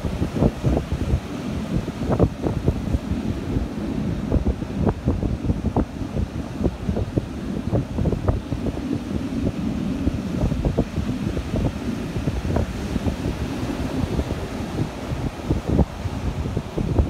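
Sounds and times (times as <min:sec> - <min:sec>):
beach surf: 0:00.0 - 0:17.0
wind buffeting microphone: 0:00.0 - 0:17.0.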